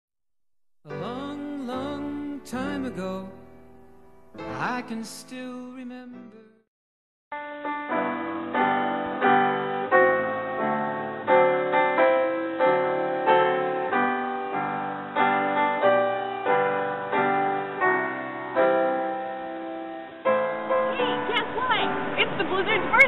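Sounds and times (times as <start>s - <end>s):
piano chords: 0.9s - 6.5s, 7.3s - 23.0s.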